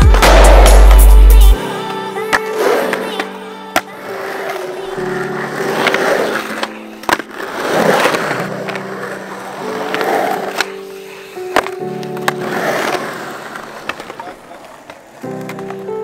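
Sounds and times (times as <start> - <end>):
background music with held notes: 0.0 - 14.2, 14.8 - 16.0
skateboard clacks: 0.0 - 16.0
skateboard wheels rolling on concrete: 0.0 - 16.0.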